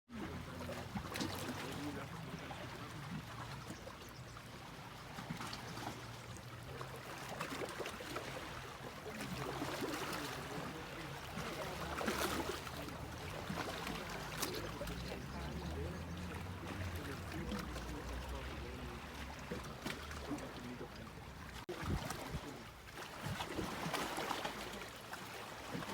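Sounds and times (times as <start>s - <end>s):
sea waves washing onto beach: 0.1s - 25.9s.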